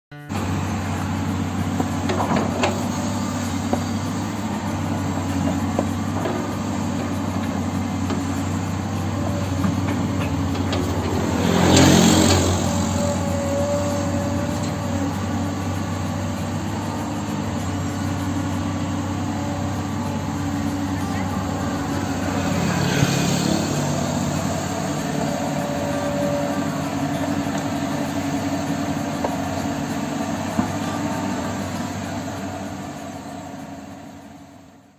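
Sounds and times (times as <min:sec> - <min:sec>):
excavator engine running: 0:00.1 - 0:34.9.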